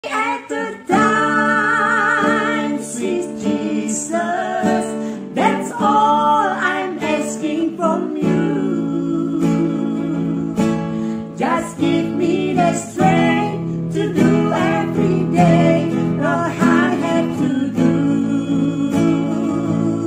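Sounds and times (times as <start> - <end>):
person singing: 0.0 - 20.0
strummed acoustic guitar: 0.5 - 20.0.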